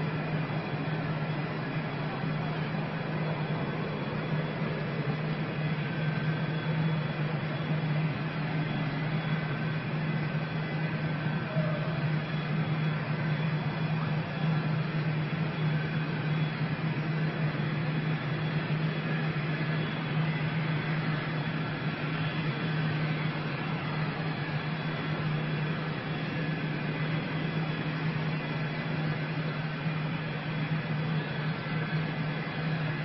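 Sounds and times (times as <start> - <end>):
machine drone with hiss: 0.0 - 33.0.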